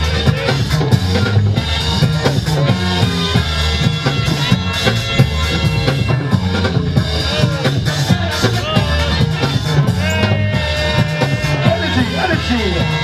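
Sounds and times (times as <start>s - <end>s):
drum beat with bassline: 0.0s - 13.0s.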